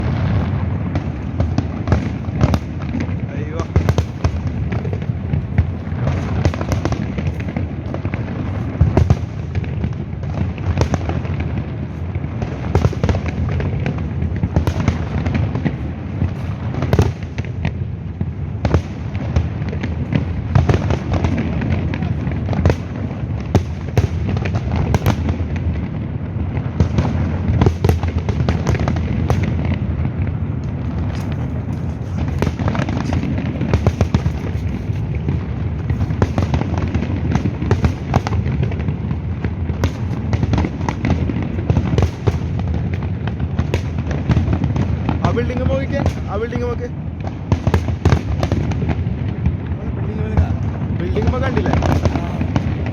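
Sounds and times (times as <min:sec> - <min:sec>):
fireworks bangs and crackles: 0:00.0 - 0:52.9
low rumble of fireworks bursts: 0:00.0 - 0:52.9.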